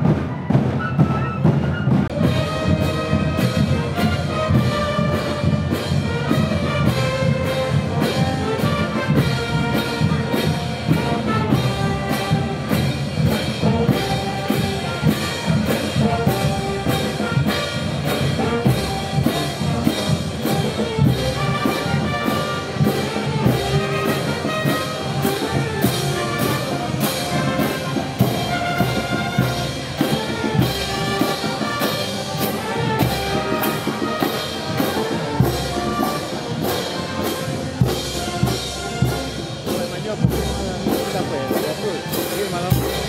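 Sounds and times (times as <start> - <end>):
drums and cymbals beat: 0.0 - 43.0
trumpets and trombones: 0.0 - 43.0.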